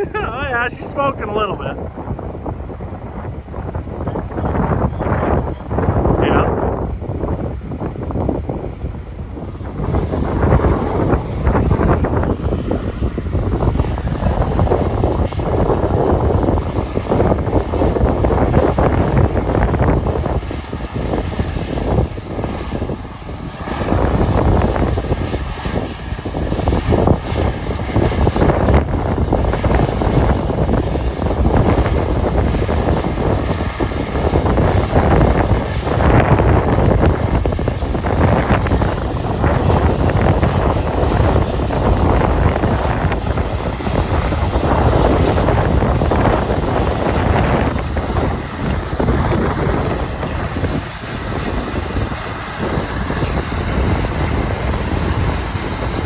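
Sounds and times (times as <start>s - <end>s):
wind gusting on microphone: 0.0s - 56.0s
combine harvester running: 9.4s - 56.0s.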